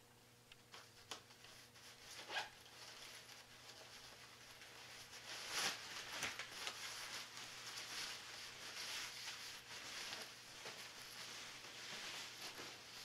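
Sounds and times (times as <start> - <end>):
synthetic fabric rustling: 1.0 - 13.0.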